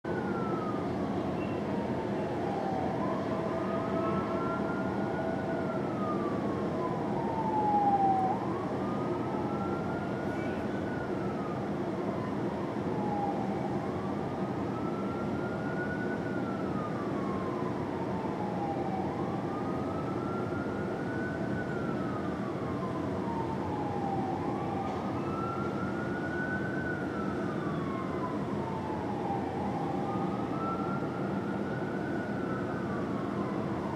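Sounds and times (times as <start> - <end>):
fire engine siren wailing: 0.1 - 33.9.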